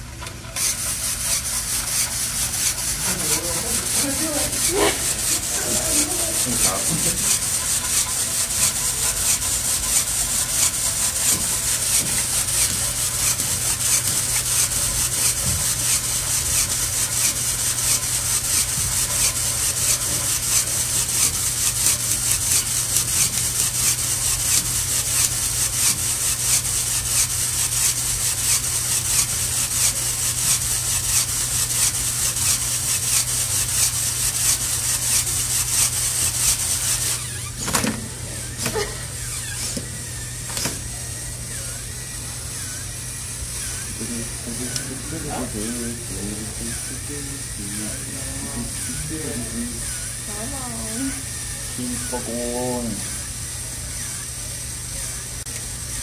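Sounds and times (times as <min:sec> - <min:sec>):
rapid rhythmic motor scraping: 0:00.0 - 0:56.0.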